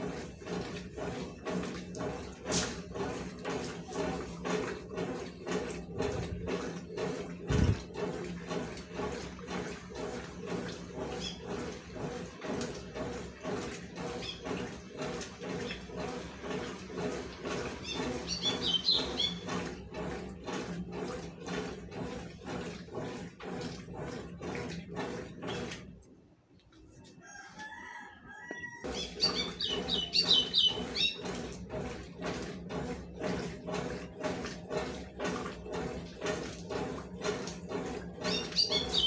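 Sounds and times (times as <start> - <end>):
washing machine agitating: 0.0 - 39.0.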